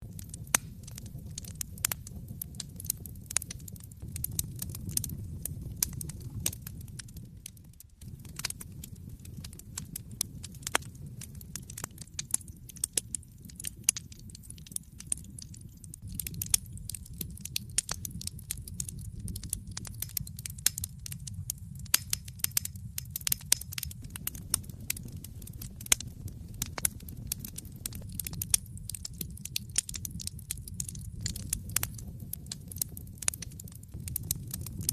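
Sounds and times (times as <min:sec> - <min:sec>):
burning logs crackling and popping: 0:00.0 - 0:34.9
flames rumbling: 0:00.0 - 0:34.9.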